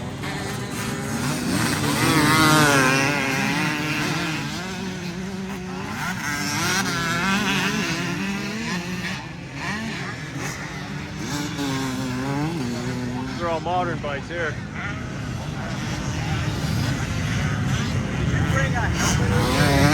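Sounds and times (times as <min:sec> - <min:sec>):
motorcycle engines revving: 0:00.0 - 0:19.9.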